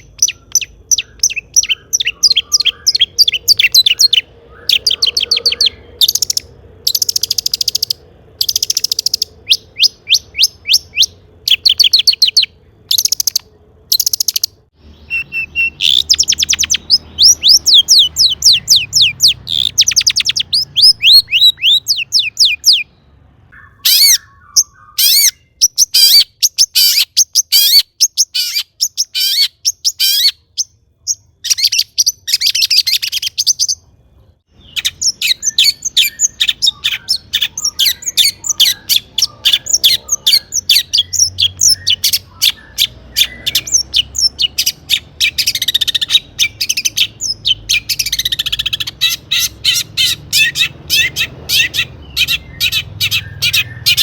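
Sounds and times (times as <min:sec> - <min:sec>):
bird singing rapid song: 0:00.0 - 0:54.0.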